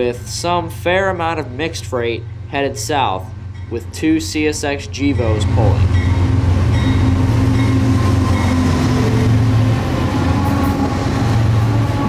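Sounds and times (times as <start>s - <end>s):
diesel locomotive engines droning: 0.0s - 12.0s
train wheels on rails: 0.0s - 12.0s.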